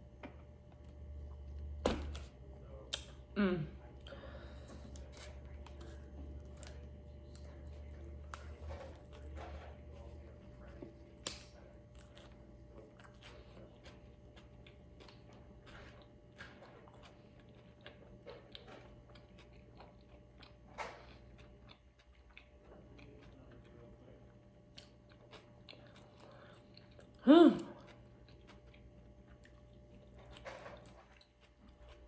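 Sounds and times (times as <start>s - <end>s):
chewing food: 3.9s - 32.0s.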